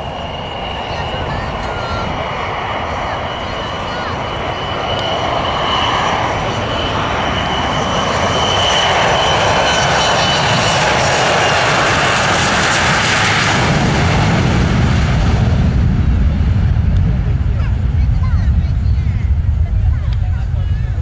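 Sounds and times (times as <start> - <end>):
airliner engines roaring: 0.0 - 21.0
high engine whine: 0.0 - 21.0.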